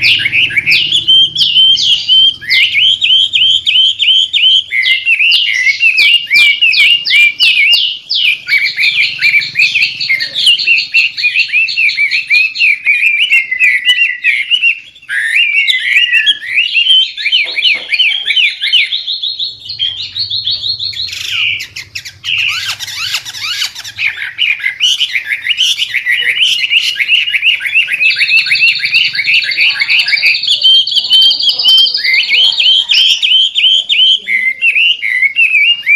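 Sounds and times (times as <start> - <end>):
bird singing whistled notes: 0.0 - 35.9.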